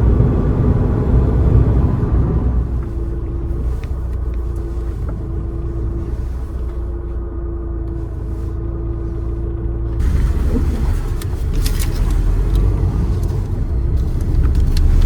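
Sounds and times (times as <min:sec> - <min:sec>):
car engine and road rumble: 0:00.0 - 0:15.0
mid-pitched hum: 0:00.0 - 0:15.0.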